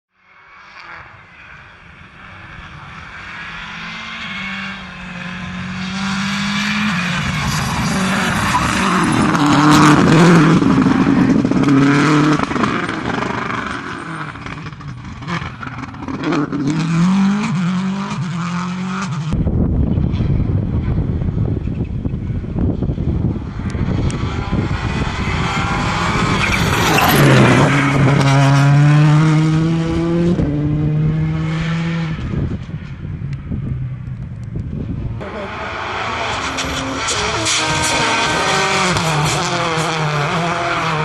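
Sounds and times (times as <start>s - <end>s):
rally car engine passing: 0.3s - 34.1s, 34.7s - 41.0s
second car accelerating: 0.7s - 41.0s.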